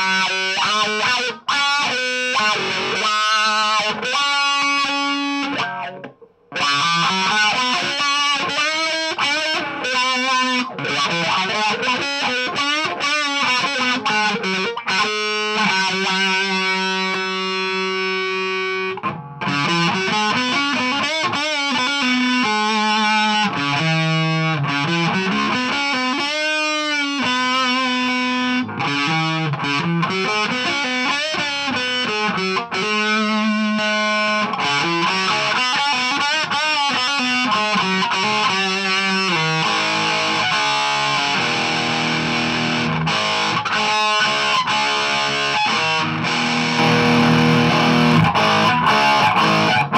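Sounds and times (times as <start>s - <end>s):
overdriven electric guitar: 0.0s - 49.9s.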